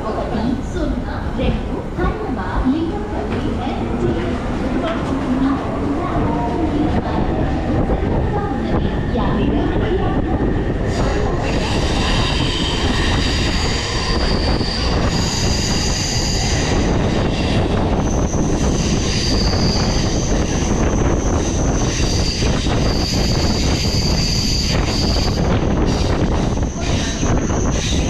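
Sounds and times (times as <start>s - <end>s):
train coach rumbling on rails: 0.0s - 28.0s.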